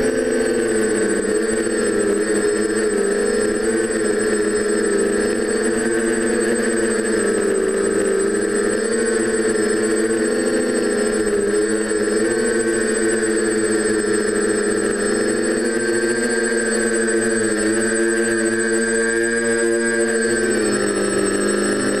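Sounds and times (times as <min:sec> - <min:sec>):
high-pitched motor whine: 0:00.0 - 0:22.0
quadcopter motors buzzing: 0:00.0 - 0:22.0.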